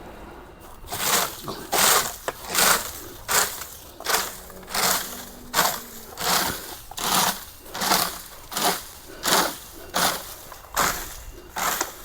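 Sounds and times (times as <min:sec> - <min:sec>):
footsteps crunching on dry ground: 0:00.0 - 0:12.0.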